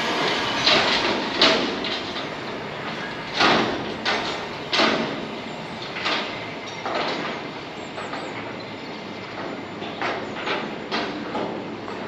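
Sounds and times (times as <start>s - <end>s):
train passing rushing noise: 0.0s - 12.0s.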